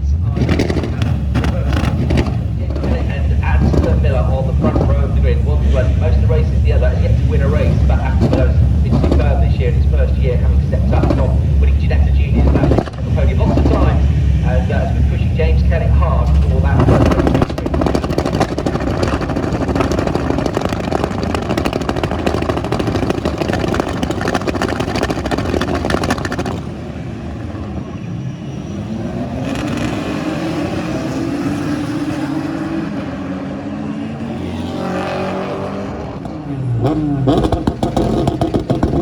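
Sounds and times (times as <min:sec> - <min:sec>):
racing car engine accelerating: 0:00.0 - 0:39.0
racing car engines passing: 0:00.0 - 0:39.0.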